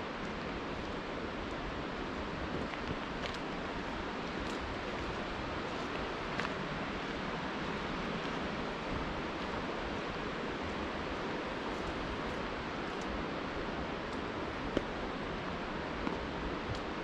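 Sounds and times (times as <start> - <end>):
outdoor ambience rushing noise: 0.0 - 17.0.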